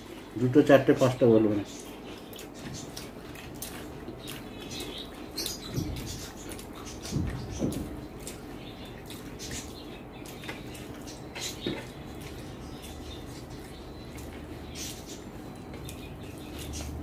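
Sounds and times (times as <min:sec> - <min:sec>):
soft chewing with mouth clicks: 0:01.6 - 0:17.0.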